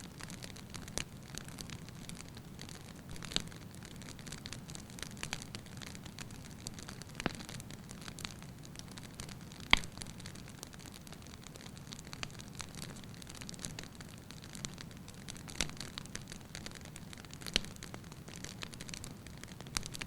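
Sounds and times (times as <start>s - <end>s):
burning wood crackling and popping: 0.0s - 20.0s.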